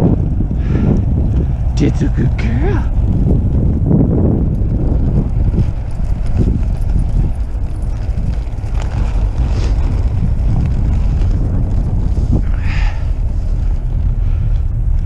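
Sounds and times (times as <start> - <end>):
skate wheels rolling on pavement: 0.0 - 15.0
wind buffeting microphone: 0.0 - 15.0.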